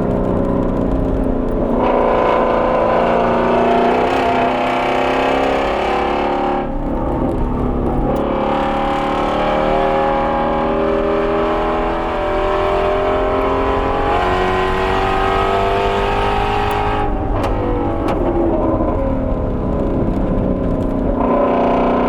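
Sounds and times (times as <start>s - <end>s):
car engine revving under load: 0.0s - 22.0s.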